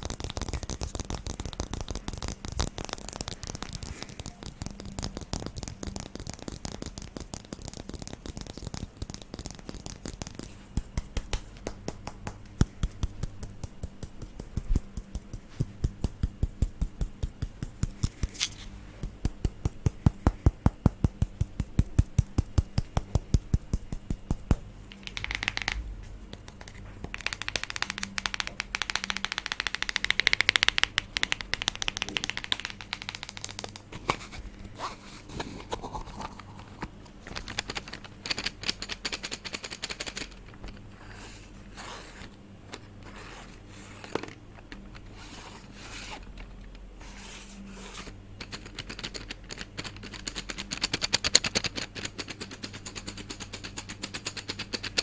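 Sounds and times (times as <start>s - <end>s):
crisp tapping and scraping: 0.0s - 50.1s
low background hum: 0.0s - 55.0s.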